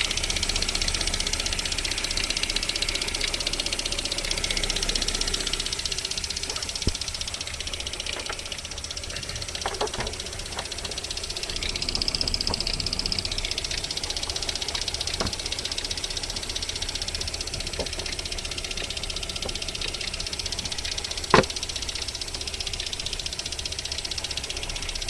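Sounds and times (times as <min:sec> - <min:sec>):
car engine knocking: 0:00.0 - 0:25.0.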